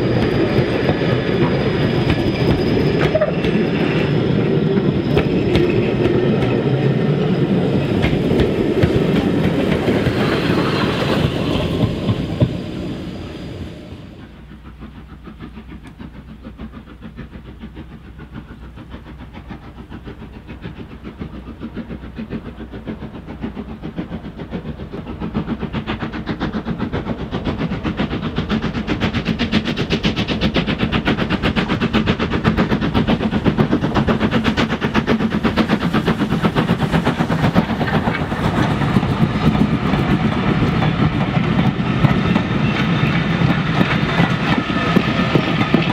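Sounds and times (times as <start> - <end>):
railway wheels clicking over joints: 0.0 - 45.9
steam locomotive exhaust beats: 0.0 - 45.9.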